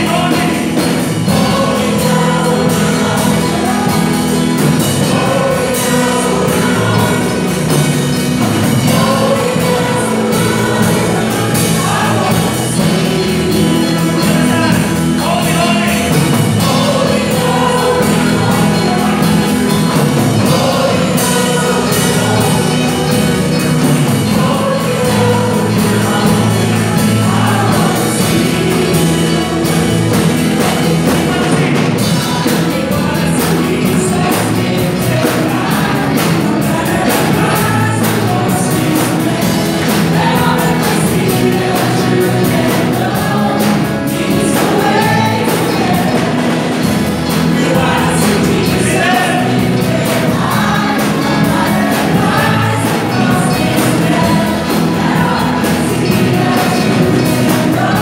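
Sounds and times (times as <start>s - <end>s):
guitar: 0.0s - 58.0s
keyboard: 0.0s - 58.0s
women singing worship song: 0.0s - 58.0s.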